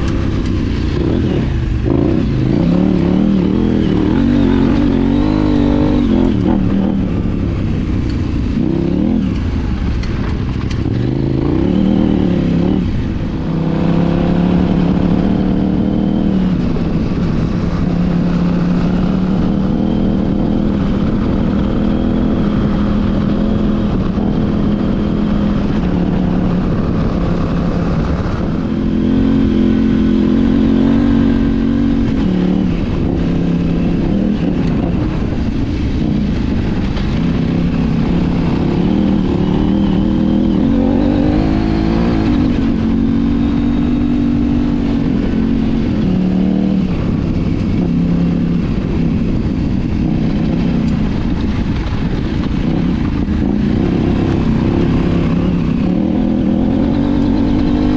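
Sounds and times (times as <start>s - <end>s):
motorcycle engine revving: 0.0s - 57.9s
wind and road noise: 0.0s - 57.9s.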